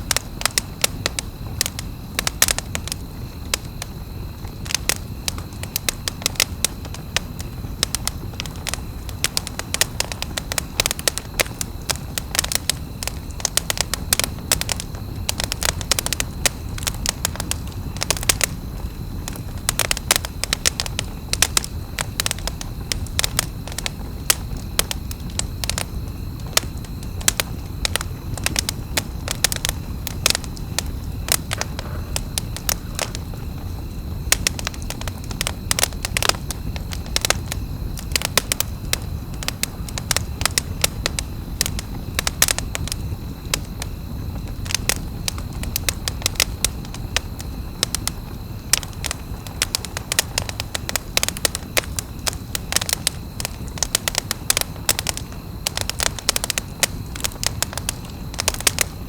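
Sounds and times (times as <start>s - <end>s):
campfire crackling: 0.0s - 59.0s
sharp snaps and pops: 0.0s - 59.0s.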